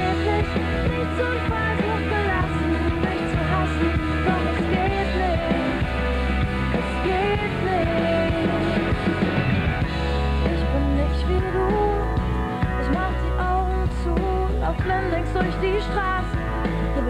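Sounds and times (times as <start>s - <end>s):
pop-rock band instrumental: 0.0s - 17.0s.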